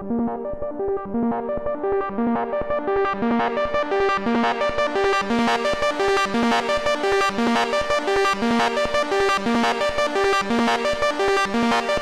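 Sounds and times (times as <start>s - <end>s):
synthesizer arpeggio: 0.0s - 12.0s.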